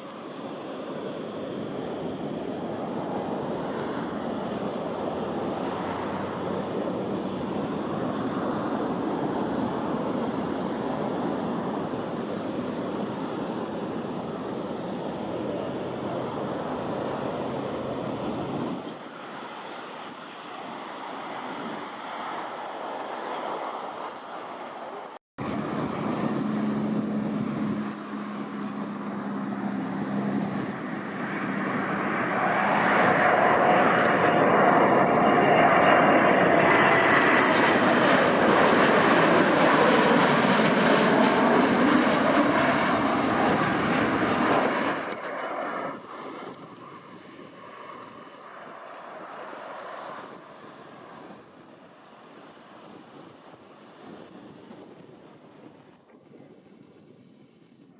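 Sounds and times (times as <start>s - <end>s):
jet airliner flying past: 0.0s - 57.9s.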